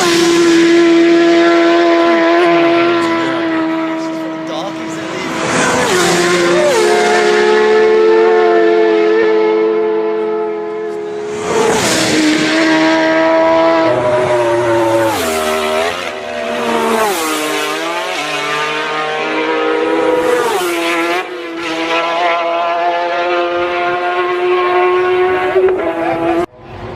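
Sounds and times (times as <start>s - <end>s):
superbike engine at high revs: 0.0s - 26.5s.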